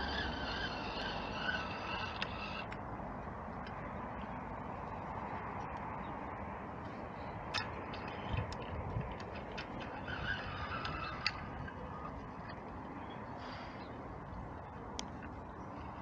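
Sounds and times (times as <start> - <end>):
low background rumble: 0.0 - 16.0
outdoor wind: 0.0 - 16.0.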